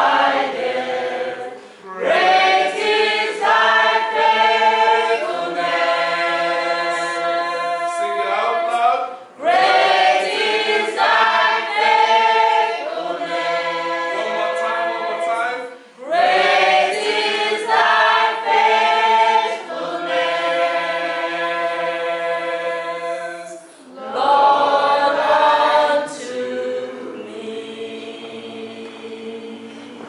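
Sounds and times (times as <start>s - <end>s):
group singing a hymn: 0.0s - 30.0s.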